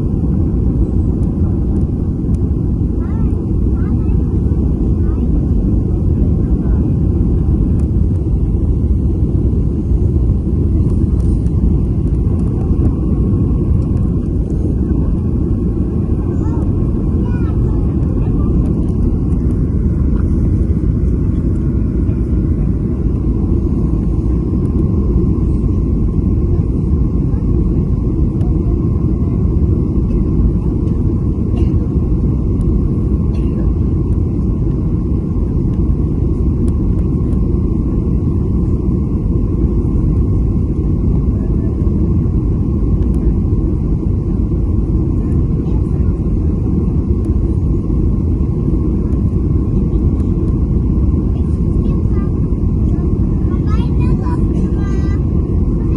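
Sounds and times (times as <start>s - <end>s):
airliner cabin engine rumble: 0.0s - 55.9s
faint steady hum: 0.0s - 55.9s.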